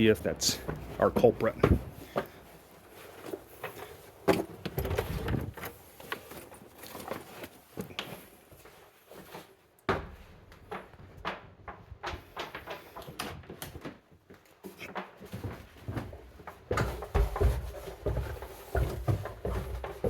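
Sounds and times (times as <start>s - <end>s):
equipment knocking and rattling: 0.0s - 8.7s, 9.9s - 14.1s, 14.8s - 20.0s.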